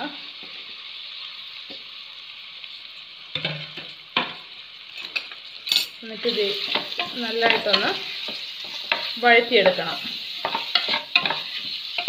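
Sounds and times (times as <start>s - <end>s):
onions sizzling in hot fat: 0.0s - 12.0s.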